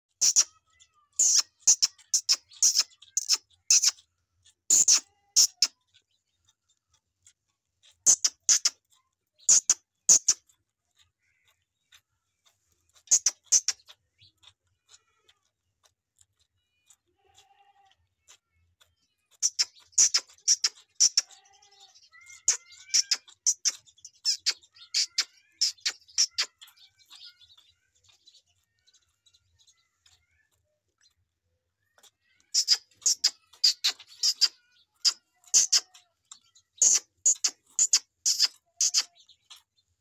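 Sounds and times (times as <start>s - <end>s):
calf sucking and slurping: 0.2s - 40.0s.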